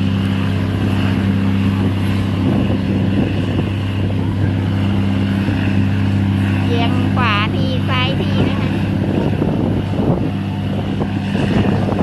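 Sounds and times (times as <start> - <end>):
boat engine humming: 0.0 - 12.0
rush of rough noise: 0.0 - 12.0.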